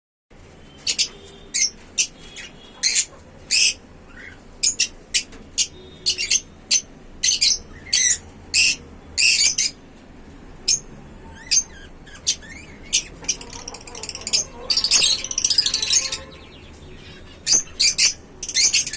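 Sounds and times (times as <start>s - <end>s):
lovebirds squawking: 0.8s - 9.8s, 10.7s - 18.9s.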